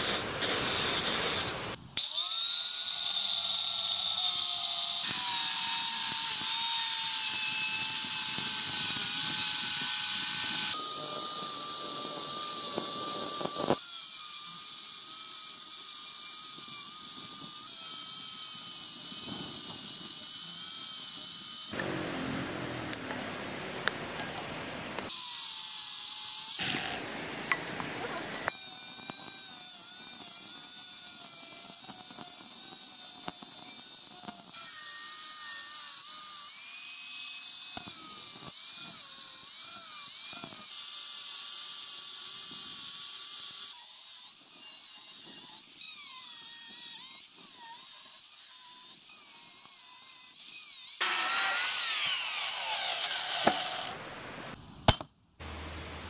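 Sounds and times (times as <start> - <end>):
angle grinder cutting steel: 0.0 - 21.9, 25.0 - 27.0, 28.5 - 54.0.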